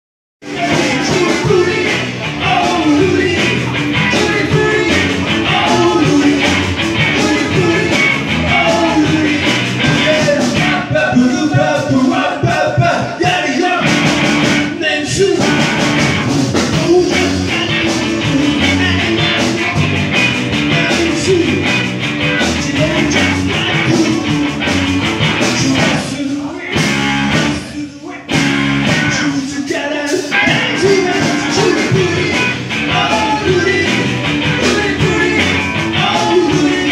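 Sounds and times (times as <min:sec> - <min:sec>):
man singing: 0:00.4 - 0:14.0, 0:14.6 - 0:19.8, 0:20.6 - 0:24.7, 0:25.4 - 0:36.9
bass guitar: 0:00.4 - 0:36.9
drums: 0:00.4 - 0:36.9
electric guitars: 0:00.4 - 0:36.9.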